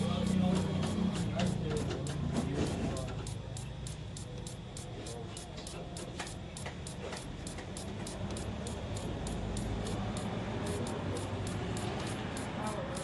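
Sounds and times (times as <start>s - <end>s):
injector clicking rapidly: 0.0s - 13.0s.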